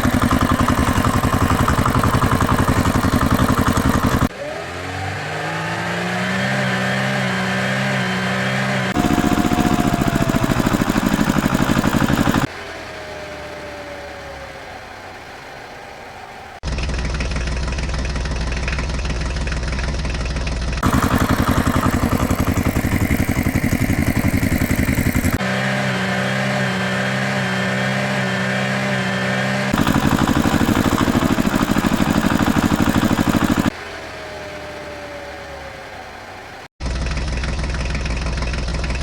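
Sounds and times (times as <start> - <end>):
droning engine: 0.0 - 39.0
engine idling: 0.0 - 39.0
fast-pulsing engine: 0.0 - 39.0.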